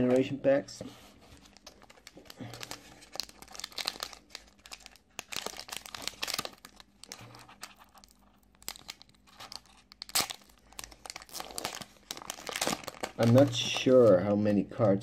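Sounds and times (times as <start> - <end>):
foil wrapper crinkling: 1.4 - 14.2.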